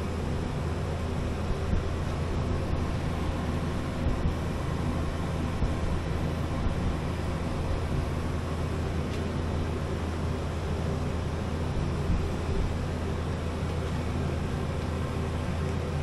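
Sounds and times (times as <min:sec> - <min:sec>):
low mechanical motor hum: 0:00.0 - 0:16.0.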